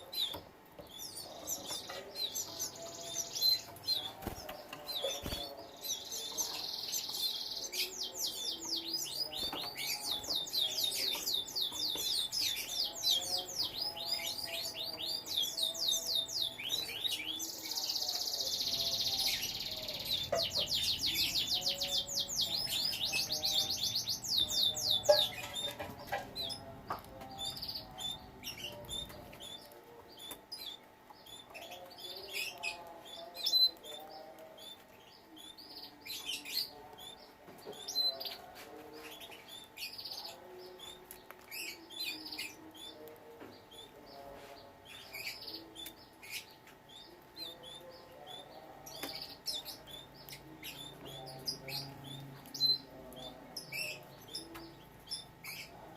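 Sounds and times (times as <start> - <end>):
canaries trilling and chirping: 0.0 - 55.9.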